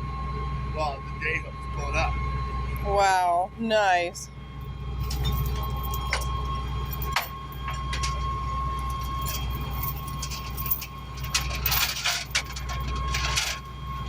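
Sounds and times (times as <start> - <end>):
high whine: 0.0 - 14.0
truck engine running: 0.0 - 14.0.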